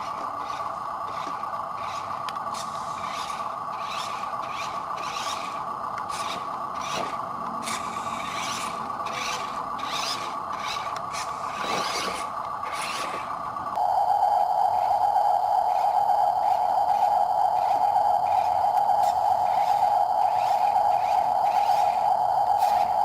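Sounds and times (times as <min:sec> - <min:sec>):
model truck electric motor whining: 0:00.0 - 0:13.9, 0:14.7 - 0:23.0.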